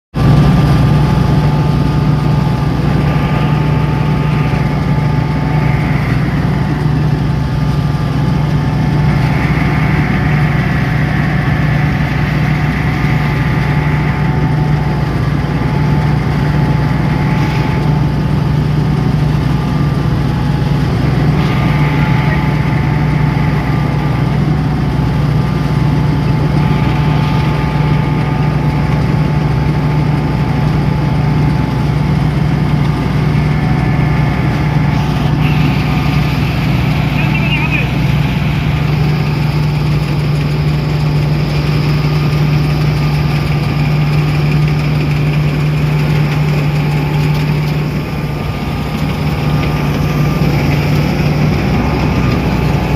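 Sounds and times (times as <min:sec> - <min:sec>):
tractor engine running: 0:00.1 - 0:52.9
machinery whine: 0:00.2 - 0:52.9.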